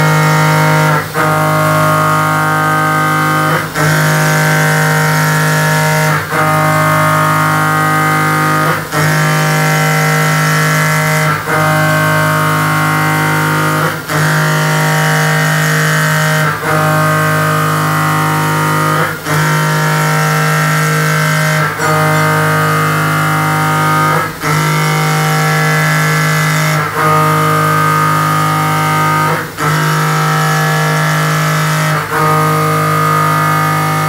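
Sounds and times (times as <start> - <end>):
milling machine cutting metal whine: 0.0 - 34.0.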